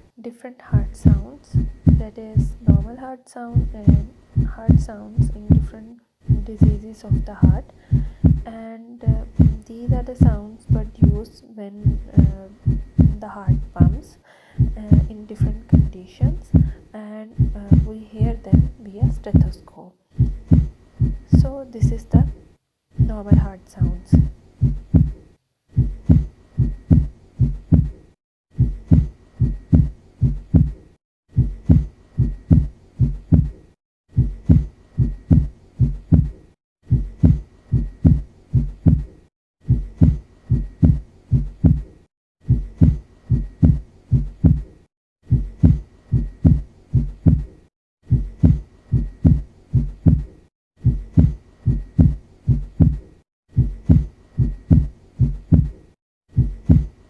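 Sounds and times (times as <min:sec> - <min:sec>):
heartbeat through stethoscope: 0:00.7 - 0:22.4, 0:23.0 - 0:57.0.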